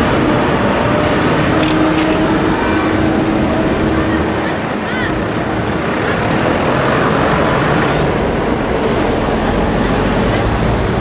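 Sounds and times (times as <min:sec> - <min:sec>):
diesel tractor engines: 0:00.0 - 0:11.0.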